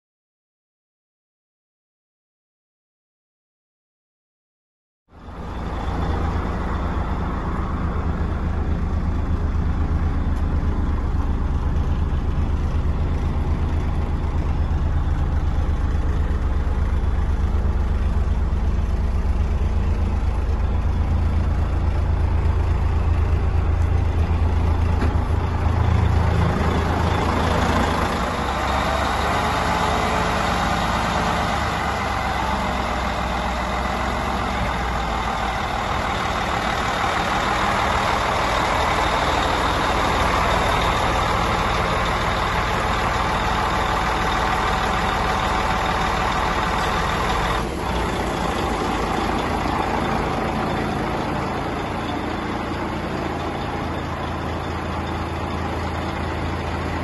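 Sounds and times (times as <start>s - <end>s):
diesel truck engine idling: 5.1s - 57.0s.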